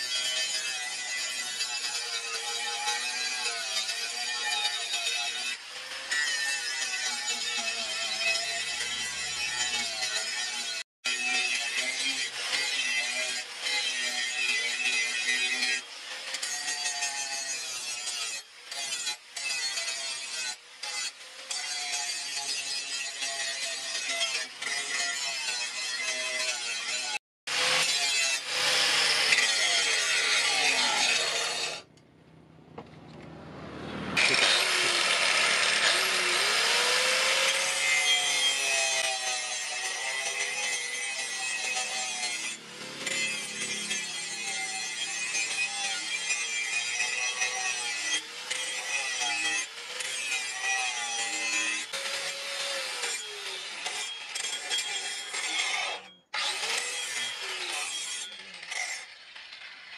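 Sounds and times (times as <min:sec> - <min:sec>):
angle grinder grinding steel: 0:00.0 - 0:32.0, 0:33.0 - 0:59.9.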